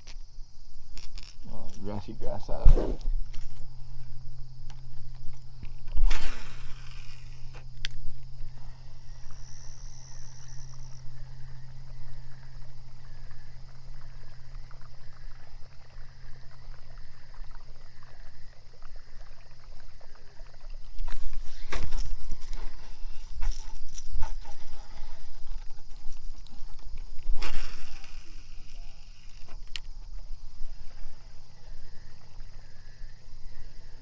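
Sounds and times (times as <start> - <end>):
steady low hum: 1.6 - 34.0.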